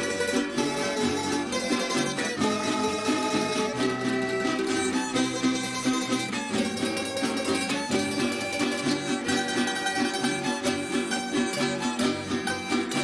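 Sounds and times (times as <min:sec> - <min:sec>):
bowed violin: 0:00.0 - 0:13.0
plucked string ensemble: 0:00.0 - 0:13.0.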